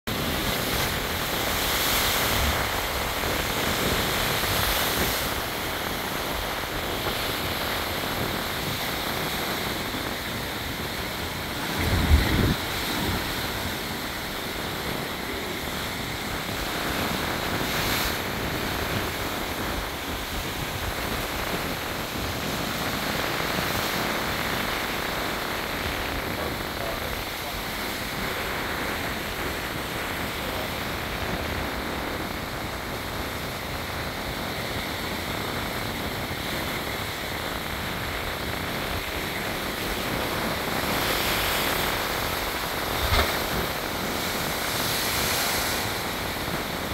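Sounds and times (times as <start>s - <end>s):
surf crashing against rocks: 0.1s - 46.9s.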